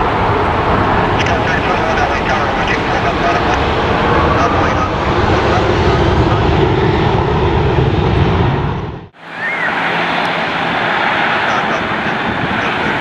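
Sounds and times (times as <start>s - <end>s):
jet engine noise: 0.0s - 13.0s
low engine hum: 0.0s - 13.0s.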